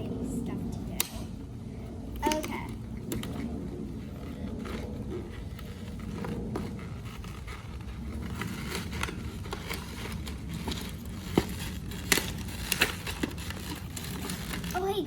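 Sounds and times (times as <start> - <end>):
plastic packaging crinkling: 2.2 - 15.0.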